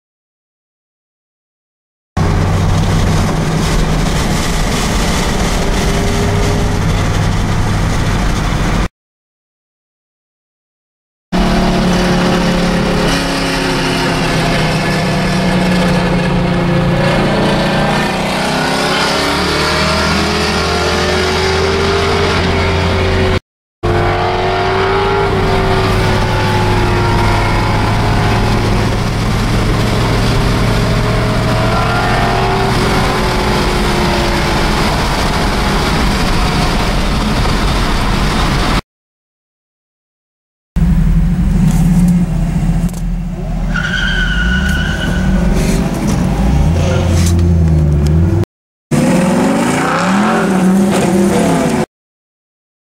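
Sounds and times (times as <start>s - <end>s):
car engine at highway speed: 2.2s - 8.9s, 11.4s - 38.8s, 40.8s - 51.9s.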